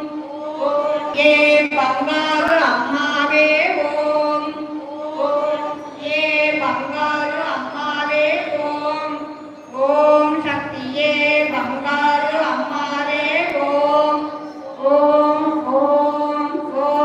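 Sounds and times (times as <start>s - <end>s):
voices singing a devotional chant: 0.0s - 17.0s.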